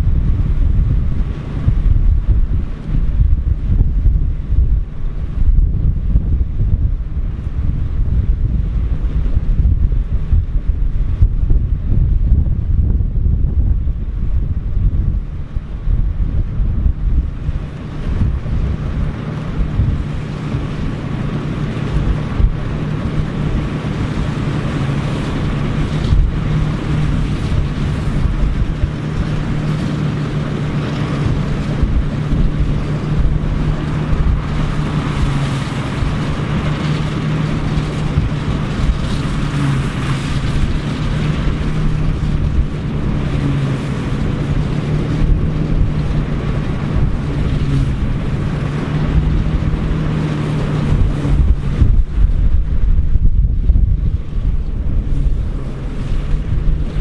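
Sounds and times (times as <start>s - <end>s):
farm machinery engine running: 0.0s - 57.0s
wind buffeting microphone: 0.0s - 57.0s.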